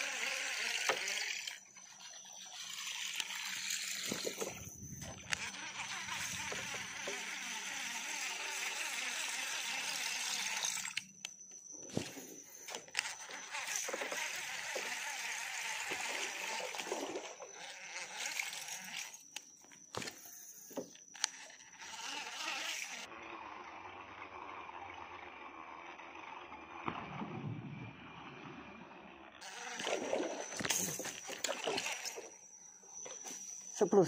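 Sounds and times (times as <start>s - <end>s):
insects buzzing: 0.0s - 23.1s, 29.4s - 34.0s
thin high whine: 0.0s - 23.2s, 23.8s - 34.0s.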